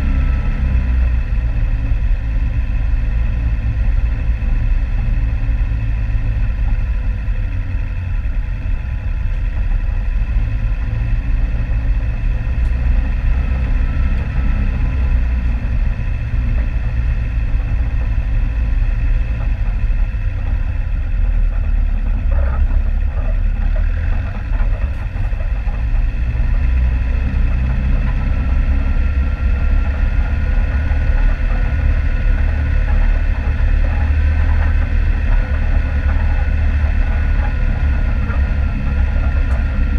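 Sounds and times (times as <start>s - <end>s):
faint rising whine: 0.0s - 39.9s
vehicle engine rumbling: 0.0s - 39.9s.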